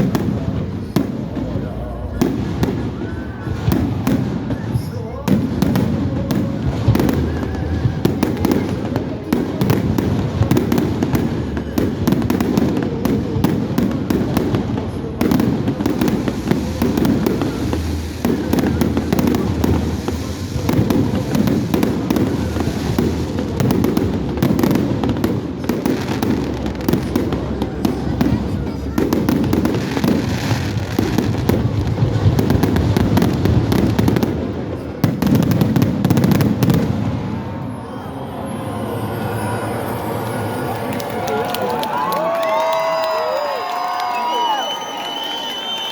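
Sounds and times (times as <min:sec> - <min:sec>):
low rumble of explosions: 0:00.0 - 0:38.0
fireworks bangs and crackles: 0:00.0 - 0:45.9.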